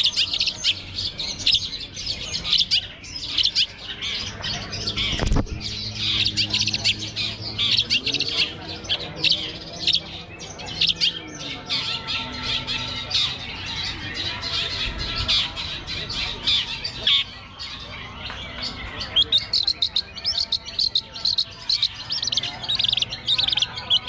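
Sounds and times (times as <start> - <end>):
bird chirping and squawking: 0.0 - 24.0.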